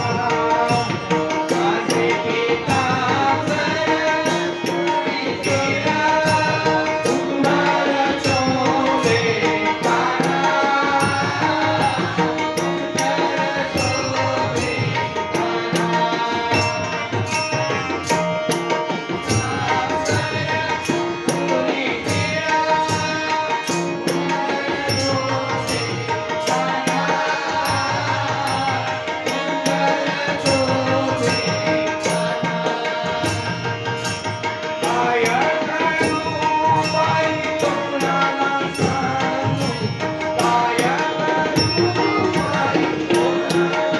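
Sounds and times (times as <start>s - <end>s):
person singing devotional song: 0.0s - 43.9s.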